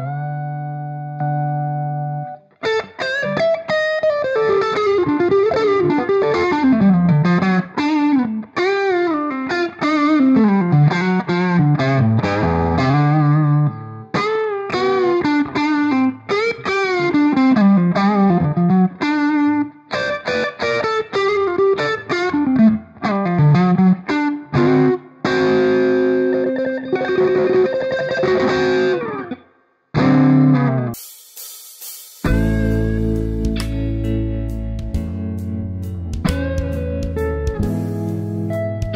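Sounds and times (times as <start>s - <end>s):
electric guitar playing: 0.0s - 31.0s, 32.2s - 38.9s.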